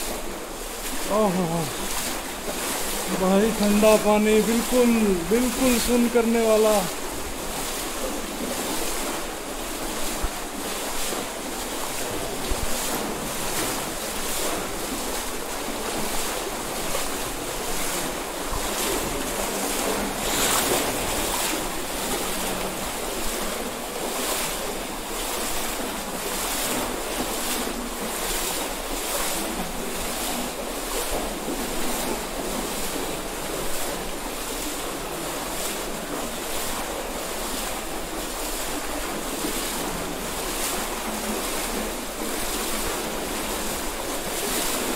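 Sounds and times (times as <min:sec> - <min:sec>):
person wading through water: 0:00.0 - 0:44.9
stream water rushing: 0:00.0 - 0:44.9.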